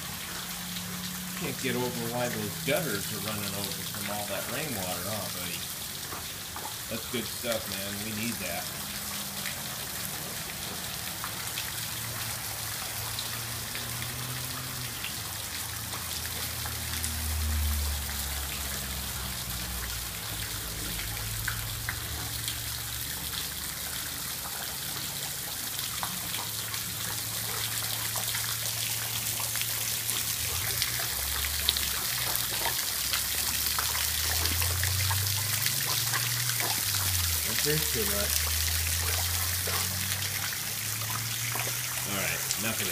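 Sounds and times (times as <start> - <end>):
steady rain: 0.0 - 42.9
water splashing from rain gutter: 0.0 - 42.9.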